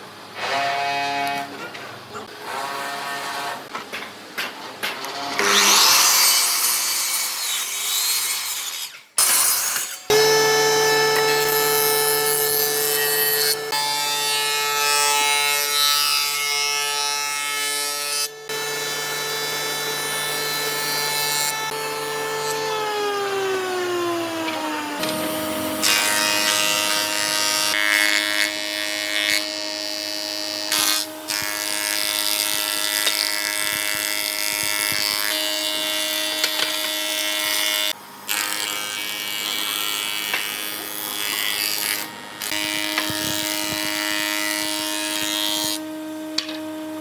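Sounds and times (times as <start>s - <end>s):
power tool cutting wood: 0.4s - 1.6s, 5.0s - 47.0s.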